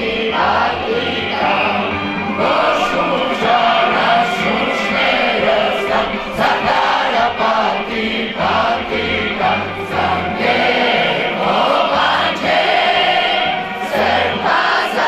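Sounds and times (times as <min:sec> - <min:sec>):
teenagers singing in chorus: 0:00.0 - 0:15.0.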